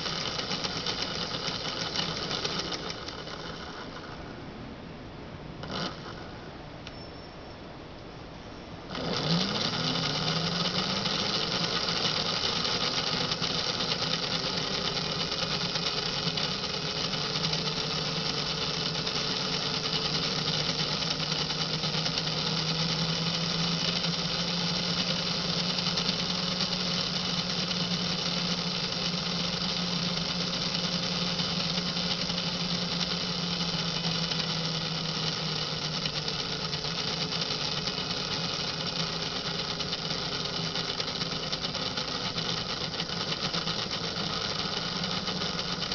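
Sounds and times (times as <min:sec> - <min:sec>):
toy locomotive motor humming: 0:00.0 - 0:04.3, 0:05.6 - 0:07.2, 0:08.9 - 0:45.9.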